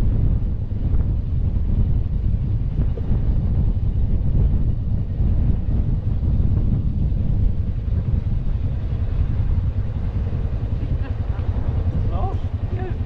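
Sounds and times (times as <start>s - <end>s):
quad bike engine: 0.0s - 13.0s
wind buffeting microphone: 0.0s - 13.0s.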